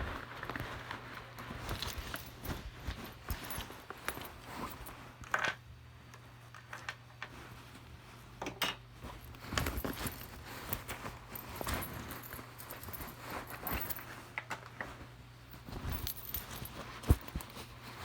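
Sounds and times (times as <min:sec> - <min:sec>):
small clicks and rustles: 0:00.0 - 0:08.3, 0:09.0 - 0:18.0.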